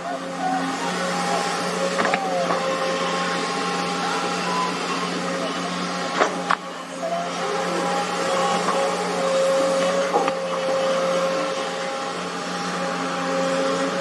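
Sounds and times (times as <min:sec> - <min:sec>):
excavator engine and hydraulics: 0:00.0 - 0:14.0
hydraulic humming whine: 0:00.0 - 0:14.0.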